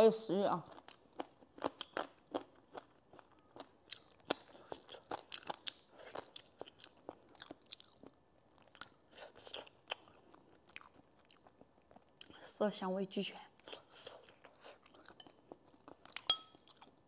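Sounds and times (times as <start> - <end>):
person chewing food: 0.7 - 12.5, 13.6 - 17.0.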